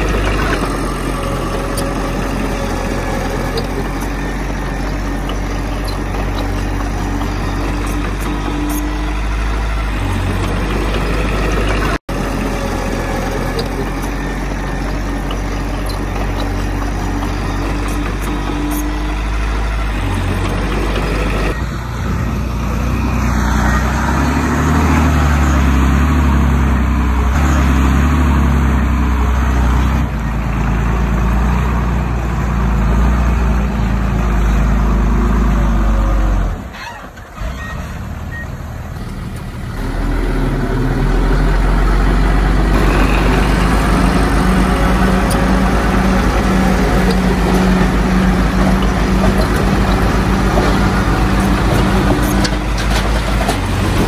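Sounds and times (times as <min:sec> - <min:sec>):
heavy diesel engines rumbling: 0:00.0 - 0:54.0.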